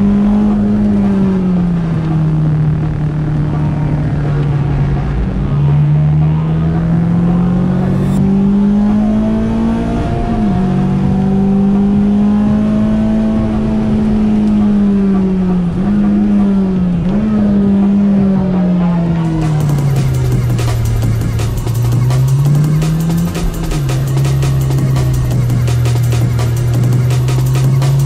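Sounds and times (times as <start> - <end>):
car engine running hard: 0.0 - 28.0.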